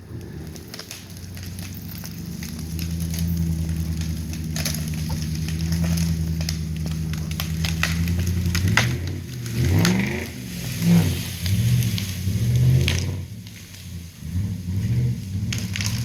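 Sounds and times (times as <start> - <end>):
crackles and snaps: 0.0 - 16.0
truck engine under load: 0.0 - 16.0.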